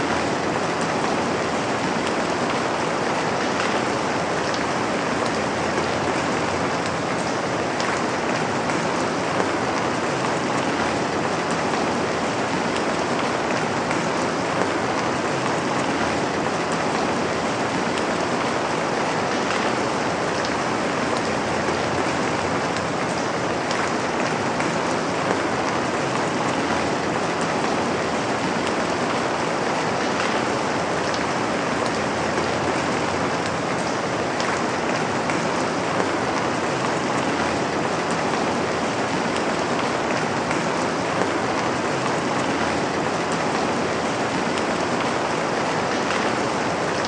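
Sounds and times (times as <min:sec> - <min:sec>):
rain pattering on a surface: 0:00.0 - 0:47.0.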